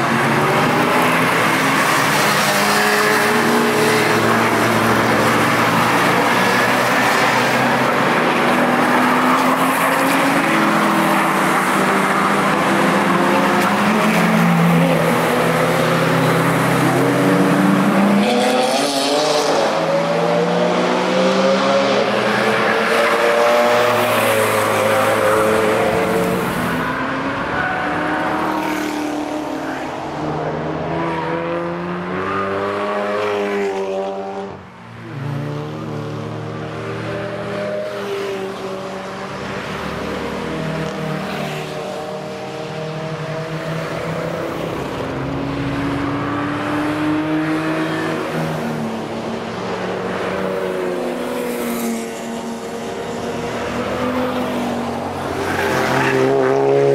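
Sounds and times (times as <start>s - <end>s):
race cars passing: 0.0s - 56.9s.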